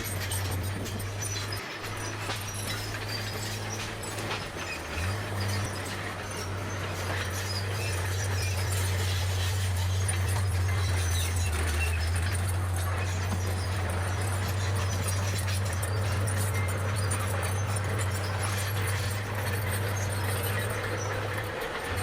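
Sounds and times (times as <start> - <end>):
bulldozer diesel engine running: 0.0 - 22.0
light metal clanks and rattles: 0.0 - 22.0.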